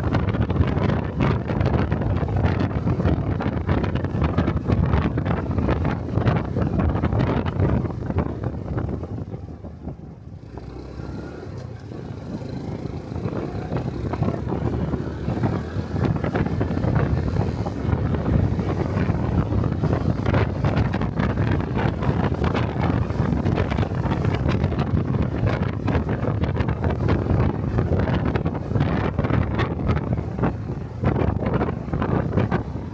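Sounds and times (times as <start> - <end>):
road noise: 0.0 - 32.9
wind buffeting the microphone: 0.0 - 32.9.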